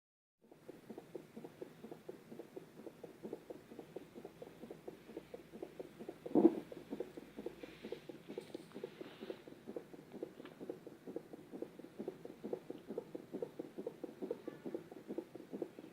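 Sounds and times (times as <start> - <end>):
fetal heartbeat on doppler monitor: 0.4 - 15.9.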